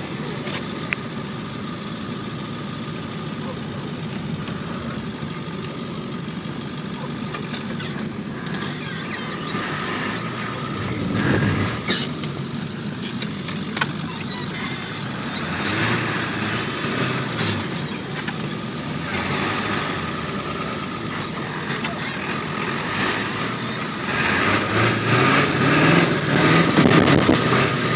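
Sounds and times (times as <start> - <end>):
truck engine driving through snow: 0.0 - 27.9.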